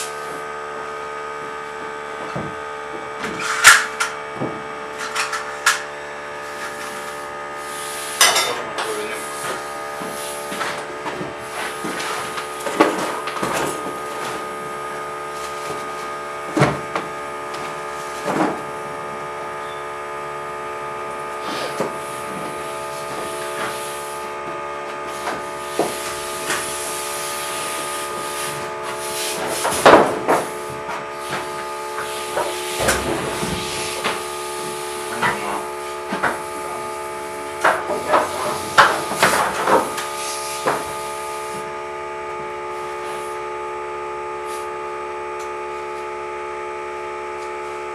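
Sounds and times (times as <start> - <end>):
air compressor running: 0.0 - 47.9.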